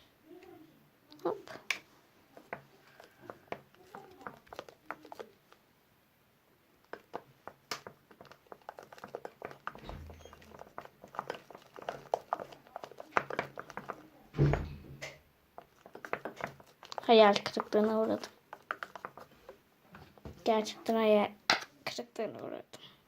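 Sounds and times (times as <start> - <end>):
slime being stirred squelching: 1.1 - 5.7, 6.8 - 21.7.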